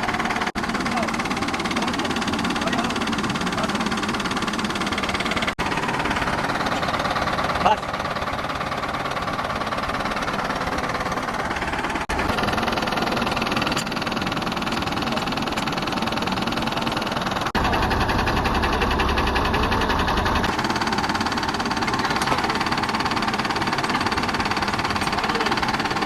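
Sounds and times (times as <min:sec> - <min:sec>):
engine clattering: 0:00.0 - 0:26.0
heavy rhythmic low rumble: 0:00.0 - 0:26.0.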